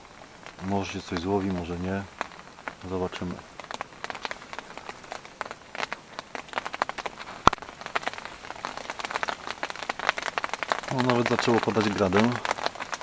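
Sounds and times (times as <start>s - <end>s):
faint hiss: 0.0s - 13.0s
hail and rain striking surfaces: 0.0s - 13.0s.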